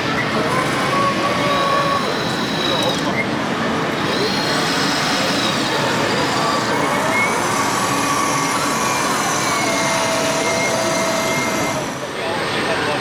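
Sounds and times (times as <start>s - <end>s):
busy exhibition hall background: 0.0s - 13.0s
model truck engines: 0.0s - 13.0s
high held tones: 1.3s - 11.9s.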